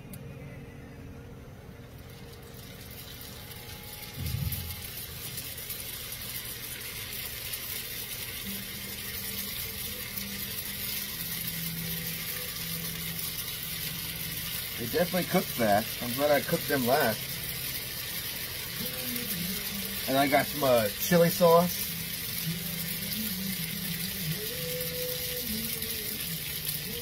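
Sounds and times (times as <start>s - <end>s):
food sizzling in hot oil: 2.0s - 27.0s.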